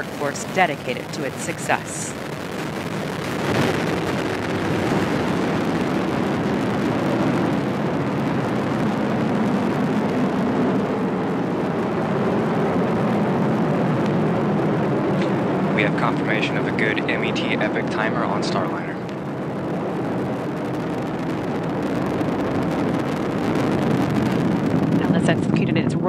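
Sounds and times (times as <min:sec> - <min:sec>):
rocket engine deep rumble: 0:00.0 - 0:26.0.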